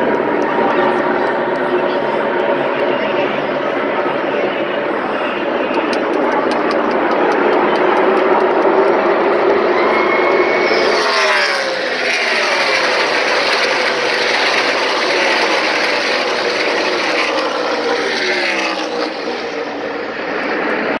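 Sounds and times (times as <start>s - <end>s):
engines passing by: 0.0s - 21.0s
racing car engines roaring: 0.0s - 21.0s.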